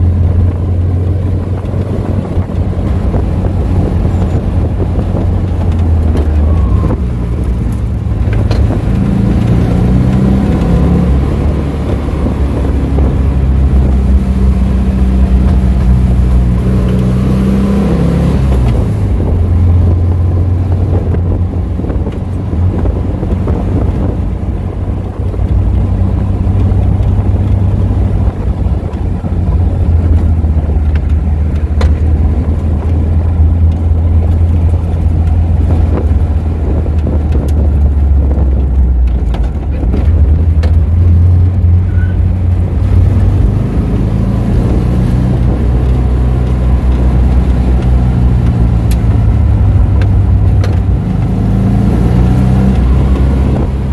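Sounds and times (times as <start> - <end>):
car engine cruising: 0.0 - 53.9
road and wind noise: 0.0 - 53.9.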